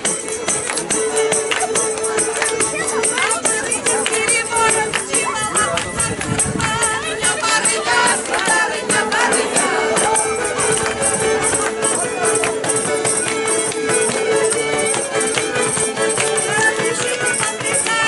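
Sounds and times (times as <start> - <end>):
folk music: 0.0 - 18.0
shaking percussion beat: 0.0 - 18.0
voices: 0.0 - 18.0.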